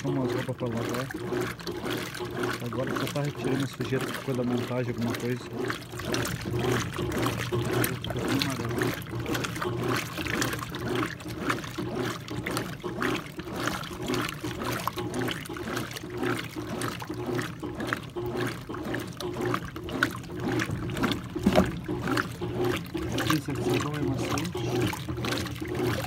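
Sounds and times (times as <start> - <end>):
washing machine hum: 0.0 - 26.0
water sloshing in washing machine: 0.0 - 26.0.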